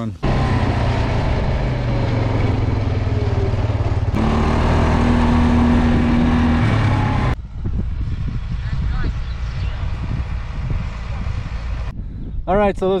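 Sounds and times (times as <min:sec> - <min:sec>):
engine humming: 0:00.0 - 0:11.9.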